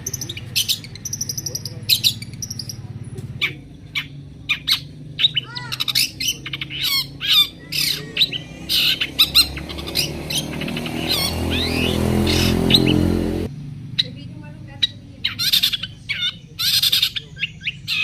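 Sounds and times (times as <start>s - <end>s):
shrike singing: 0.0s - 18.0s.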